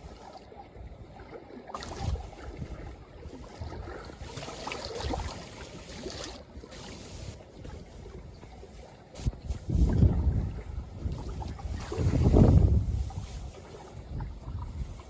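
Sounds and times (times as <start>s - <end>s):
waves lapping at shore: 0.0s - 15.0s
wind buffeting microphone: 0.8s - 15.0s.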